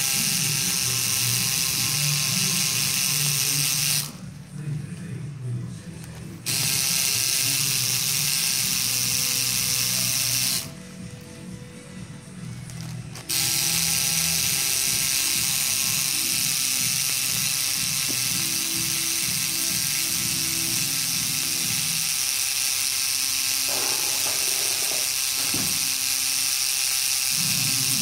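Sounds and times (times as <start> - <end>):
tattoo machine buzzing: 0.0 - 4.4, 6.4 - 11.2, 12.4 - 28.0.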